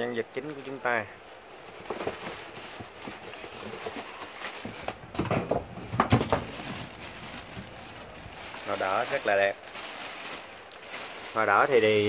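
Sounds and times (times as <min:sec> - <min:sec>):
plastic bag crinkling: 0:00.4 - 0:12.0
cardboard box rustling: 0:01.6 - 0:12.0.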